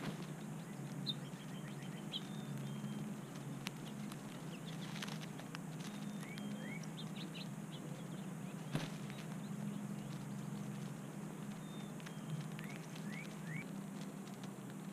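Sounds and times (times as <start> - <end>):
birds chirping: 0.0 - 14.9
birds pecking seed hulls: 0.0 - 14.9
steady low hum: 0.0 - 14.9.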